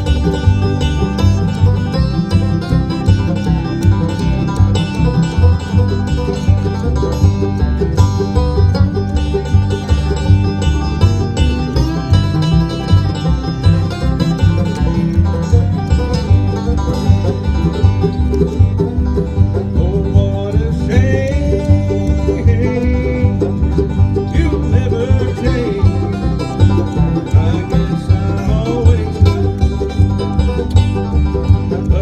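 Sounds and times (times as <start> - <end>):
banjo: 0.0 - 32.0
bass line: 0.0 - 32.0
bluegrass band playing: 0.0 - 32.0.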